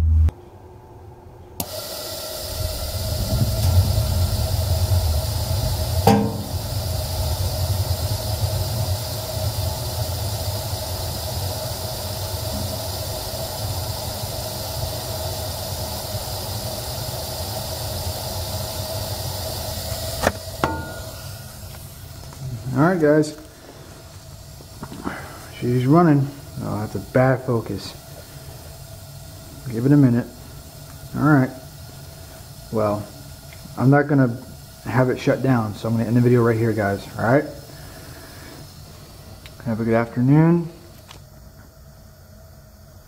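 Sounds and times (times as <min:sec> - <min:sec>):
gas burner hissing: 0:01.6 - 0:43.0.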